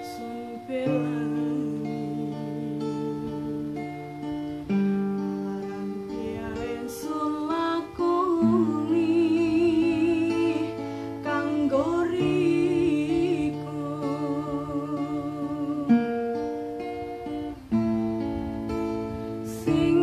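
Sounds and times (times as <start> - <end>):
woman singing with vibrato: 0.0 - 4.3, 5.2 - 16.6, 19.3 - 20.0
acoustic guitar chords: 0.0 - 20.0.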